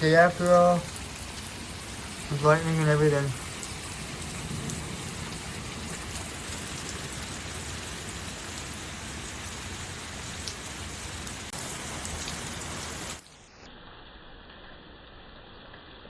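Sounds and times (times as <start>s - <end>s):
heavy rain pouring: 0.0s - 13.4s.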